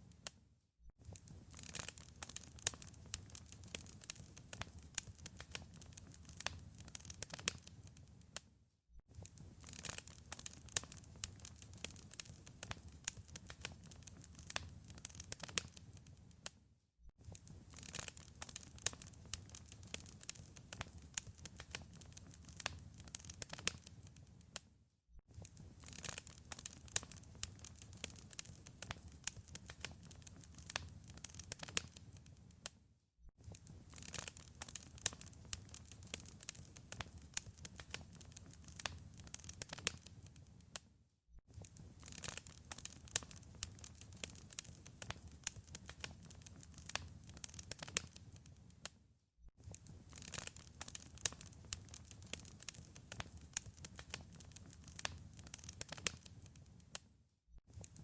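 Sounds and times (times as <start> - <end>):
wood fire crackling: 1.0 - 8.4, 9.1 - 16.5, 17.2 - 24.6, 25.3 - 32.7, 33.4 - 40.8, 41.5 - 48.9, 49.6 - 57.0.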